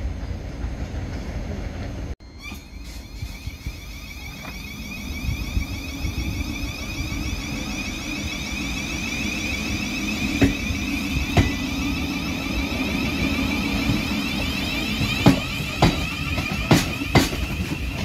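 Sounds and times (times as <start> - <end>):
electric train whine: 0.0 - 18.0
wheels rumbling on track: 2.8 - 18.0.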